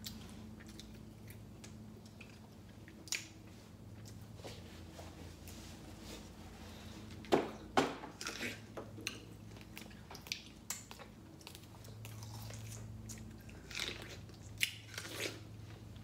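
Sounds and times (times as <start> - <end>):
person chewing juicy fruit: 0.0 - 5.6, 6.7 - 16.0
faint steady hum: 0.0 - 16.0.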